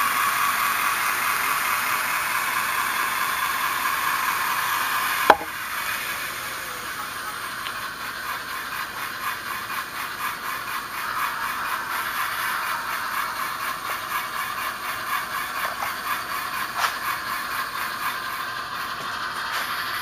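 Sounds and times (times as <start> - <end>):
model steam locomotive chuffing: 0.0 - 20.0.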